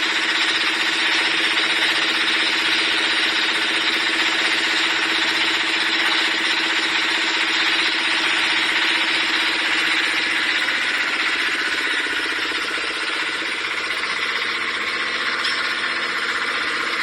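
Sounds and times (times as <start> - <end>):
motor and hydraulic pump humming: 0.0 - 17.0.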